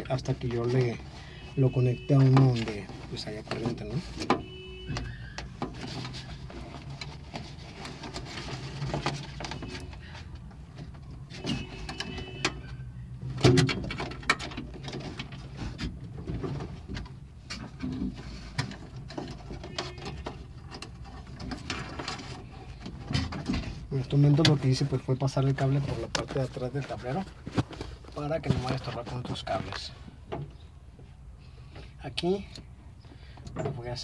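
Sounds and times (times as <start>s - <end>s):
electrical wire rustling and clicking: 2.0s - 30.6s.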